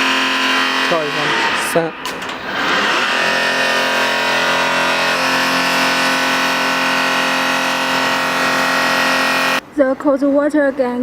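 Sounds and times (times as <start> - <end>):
steam washing machine drone: 0.0 - 9.6.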